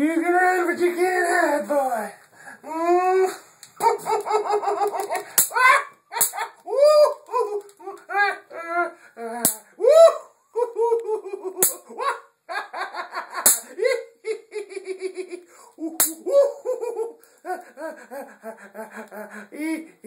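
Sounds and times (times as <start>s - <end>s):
person laughing high-pitched: 2.7s - 20.0s.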